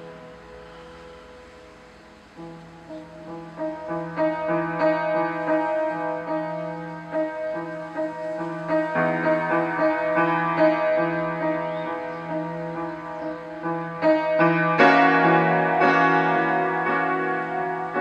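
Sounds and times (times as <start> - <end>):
upright piano playing: 0.0 - 18.0.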